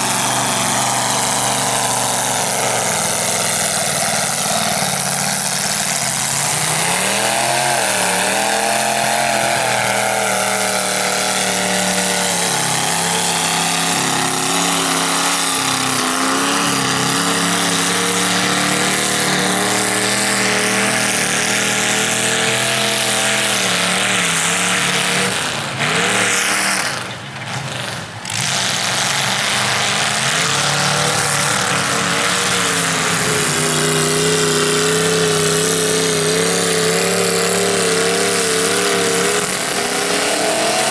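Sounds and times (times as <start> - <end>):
tires churning through mud: 0.0 - 40.9
truck engine revving hard: 0.0 - 40.9.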